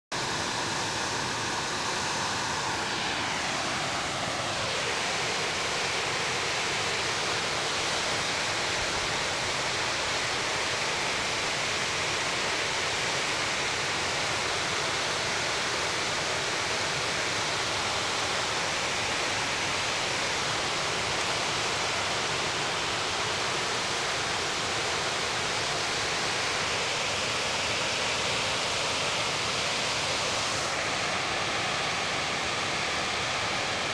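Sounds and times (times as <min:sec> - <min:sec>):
water rushing over spillway: 0:00.1 - 0:33.9.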